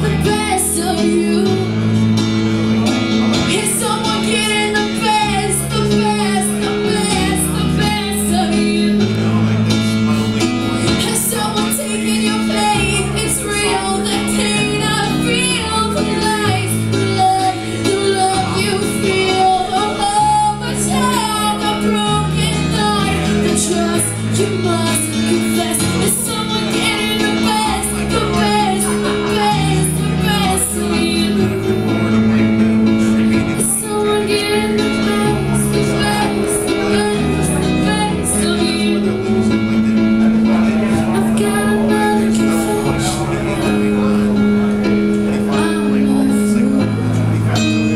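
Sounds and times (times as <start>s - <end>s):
woman singing: 0.0s - 2.2s, 3.4s - 9.4s, 10.8s - 32.2s, 33.1s - 39.8s, 40.6s - 44.2s, 45.3s - 47.6s
sustained bass notes: 0.0s - 47.9s.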